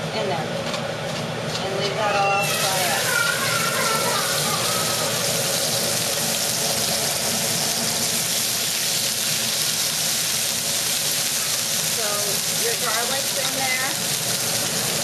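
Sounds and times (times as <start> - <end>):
garlic sizzling in hot oil: 2.0 - 15.0.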